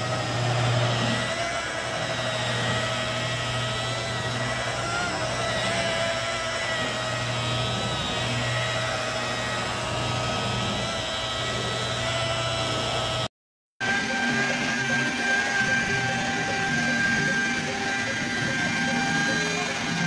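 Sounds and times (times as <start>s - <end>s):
rotary polisher motor whine: 0.0s - 20.0s.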